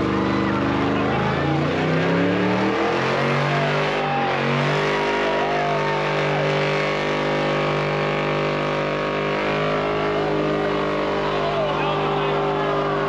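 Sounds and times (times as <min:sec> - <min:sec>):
faint voices: 0:00.0 - 0:07.3, 0:09.8 - 0:13.0
truck engine revving: 0:00.0 - 0:13.0.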